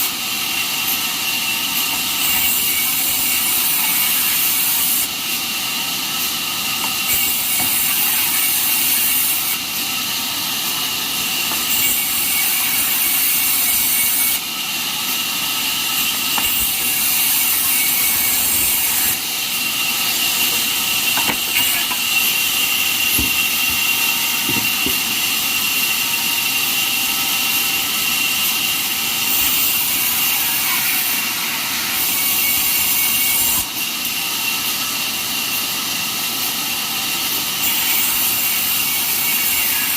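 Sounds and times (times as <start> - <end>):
band saw cutting wood: 0.0 - 35.5, 37.2 - 39.9.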